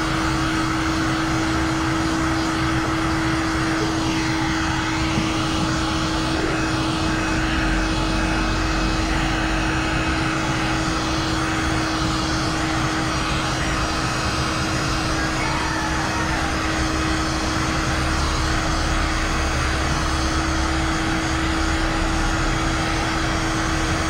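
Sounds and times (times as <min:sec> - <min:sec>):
heat gun fan motor hum: 0:00.0 - 0:24.0.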